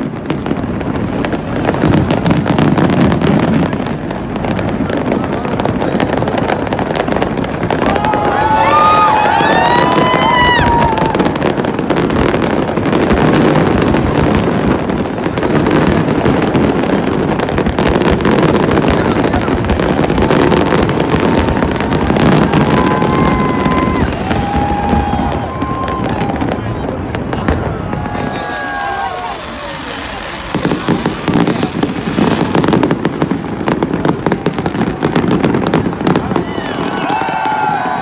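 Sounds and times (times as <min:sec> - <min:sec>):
fireworks crackling: 0:00.0 - 0:38.0.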